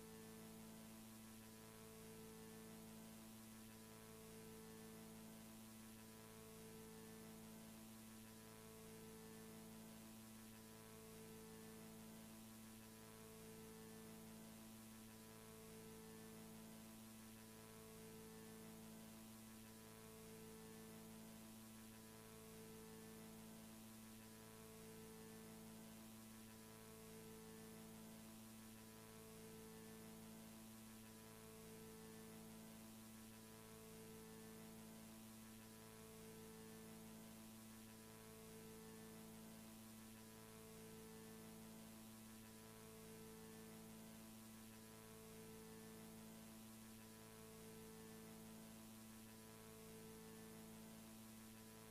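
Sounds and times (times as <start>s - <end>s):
faint electrical hum with hiss: 0.0s - 51.9s.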